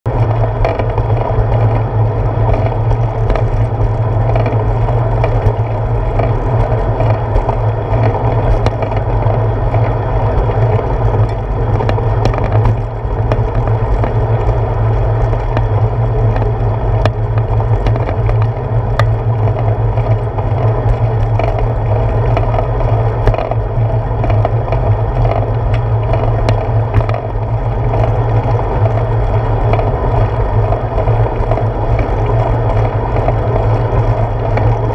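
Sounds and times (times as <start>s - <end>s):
bicycle rolling on pavement: 0.1s - 34.9s
small clicks and rattles: 0.2s - 34.9s.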